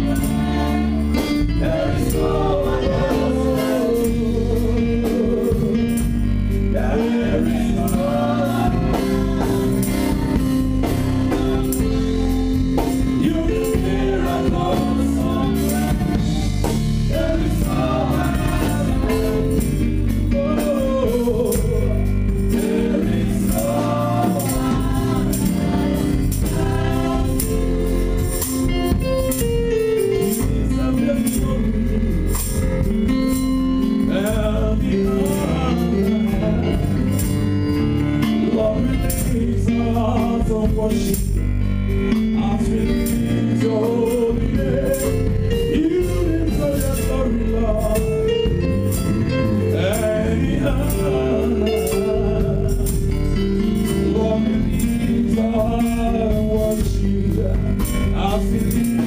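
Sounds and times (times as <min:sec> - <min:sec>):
gospel band with singing: 0:00.0 - 0:59.0.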